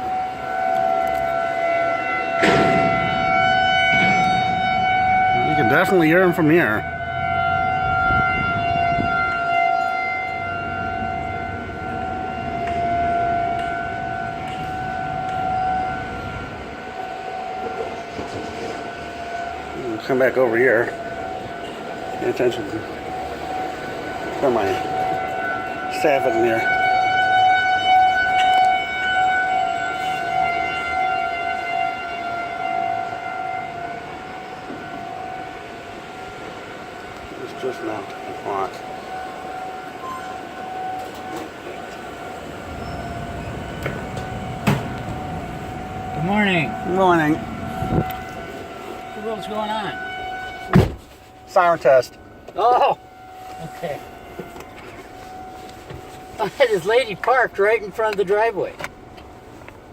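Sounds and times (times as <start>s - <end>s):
steady warning siren: 0.0s - 59.9s.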